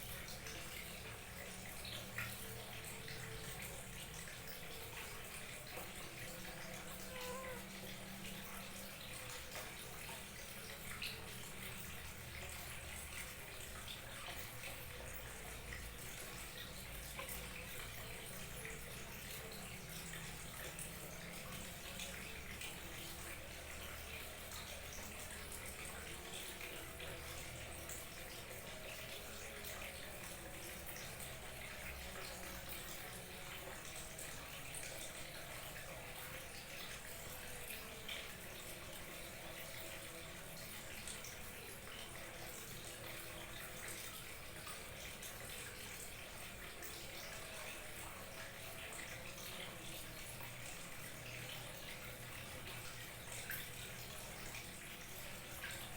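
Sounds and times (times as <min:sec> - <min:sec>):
small waterfall trickling and splashing: 0:00.0 - 0:55.9.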